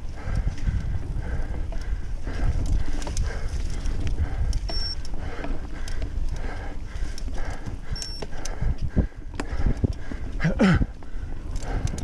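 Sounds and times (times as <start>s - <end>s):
bike rumbling and rattling: 0.0s - 12.0s
hard rhythmic breathing: 0.0s - 12.0s.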